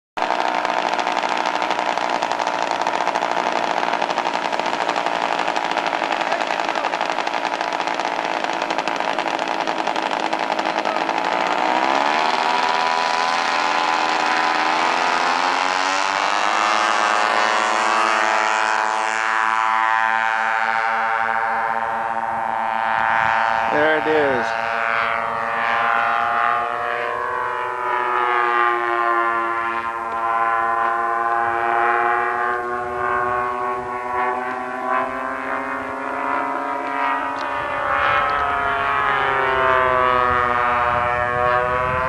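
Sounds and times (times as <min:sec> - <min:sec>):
model aircraft engine running: 0:00.2 - 0:42.0.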